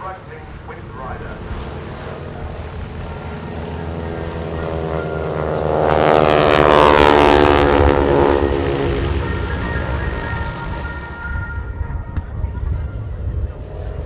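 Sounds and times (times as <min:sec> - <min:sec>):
biplanes flying past: 0:00.0 - 0:14.0.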